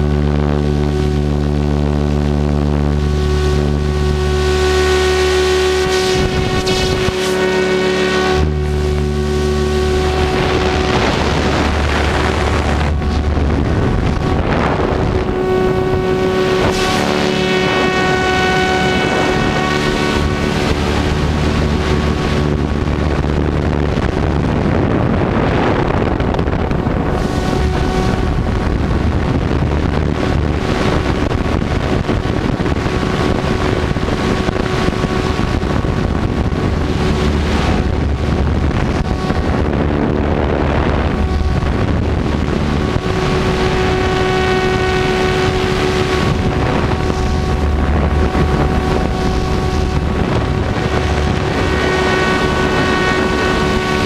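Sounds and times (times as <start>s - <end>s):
rc helicopter motor whine: 0.0s - 54.0s
rotor blade and wind rush: 0.0s - 54.0s.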